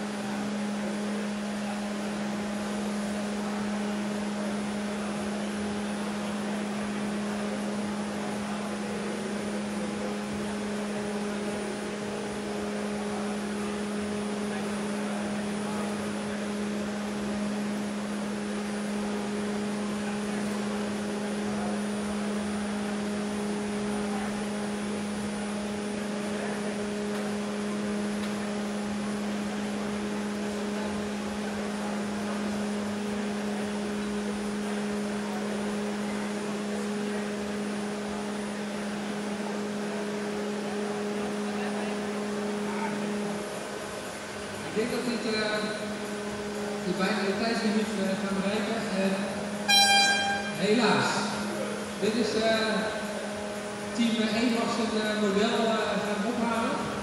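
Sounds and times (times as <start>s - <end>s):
electric fans droning: 0.0s - 57.0s.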